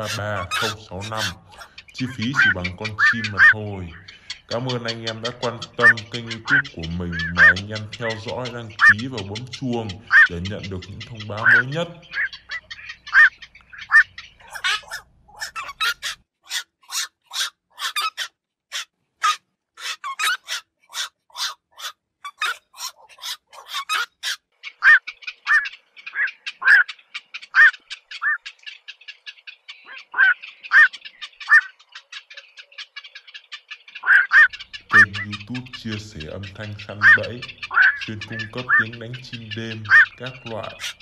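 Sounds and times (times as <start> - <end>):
heron croaks: 0.0 - 41.0
herons calling: 0.0 - 41.0.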